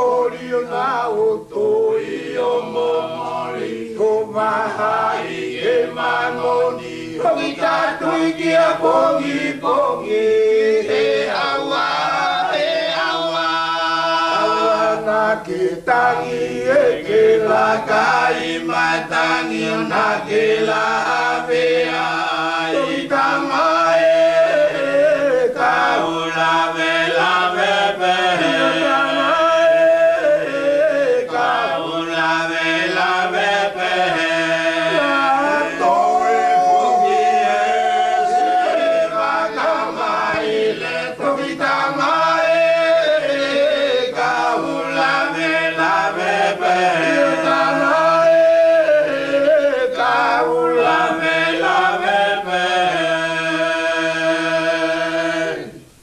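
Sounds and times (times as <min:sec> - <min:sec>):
voices chanting together: 0:00.0 - 0:56.0.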